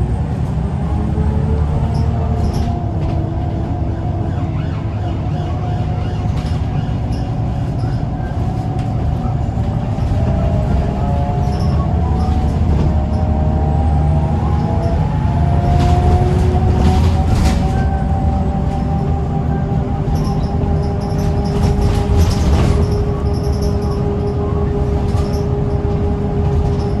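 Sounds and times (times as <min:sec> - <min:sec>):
bus engine rumbling under load: 0:00.0 - 0:27.0.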